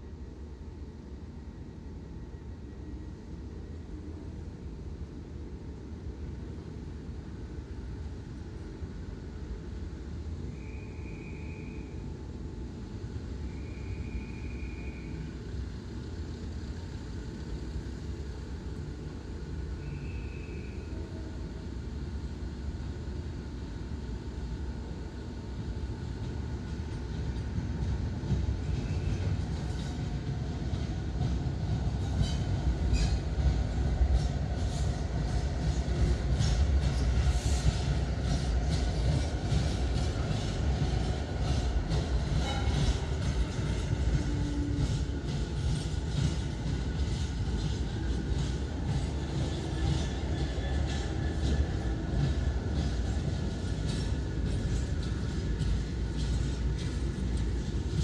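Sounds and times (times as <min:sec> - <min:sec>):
diesel train rumble: 0:00.0 - 0:58.0.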